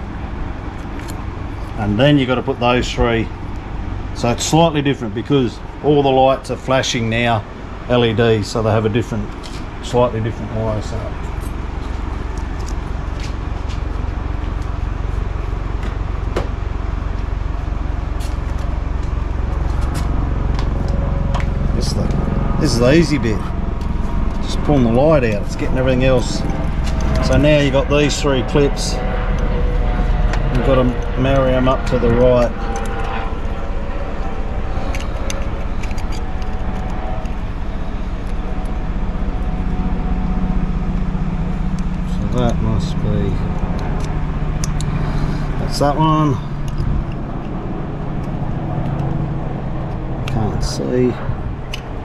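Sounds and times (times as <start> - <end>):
low rumble: 7.4 - 52.0.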